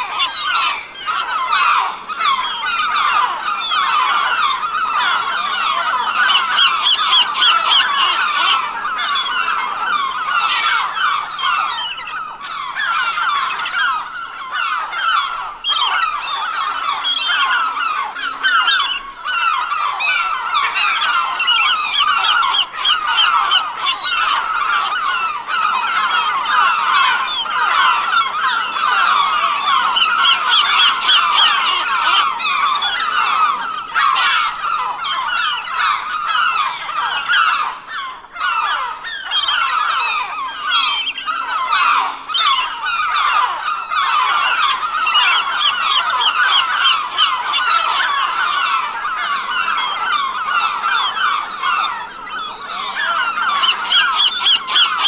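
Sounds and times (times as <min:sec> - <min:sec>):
seagulls calling: 0:00.0 - 0:55.0.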